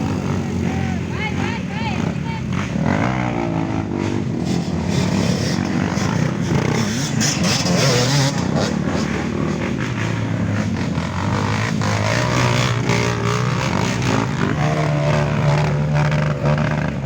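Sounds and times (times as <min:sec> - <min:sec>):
motorcycles revving in mud: 0:00.0 - 0:17.0.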